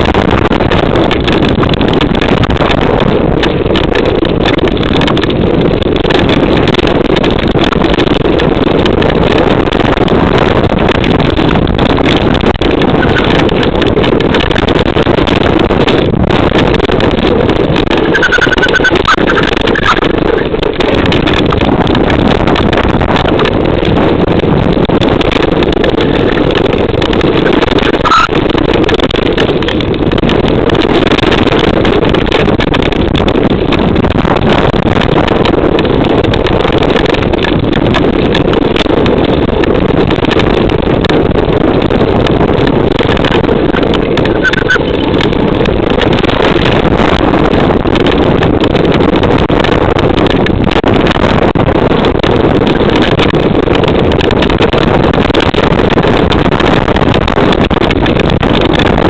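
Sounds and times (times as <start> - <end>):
bike rattling over stones: 0.0 - 59.0
wind buffeting microphone: 0.0 - 59.0.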